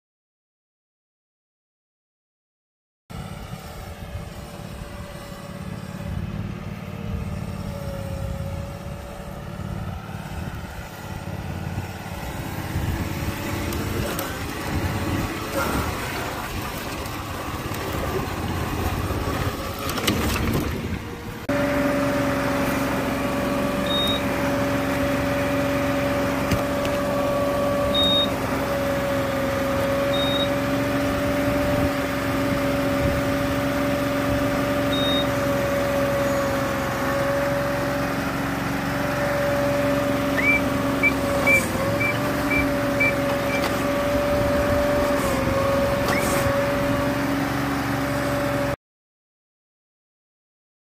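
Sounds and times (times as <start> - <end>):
small engine droning: 3.1 - 48.8.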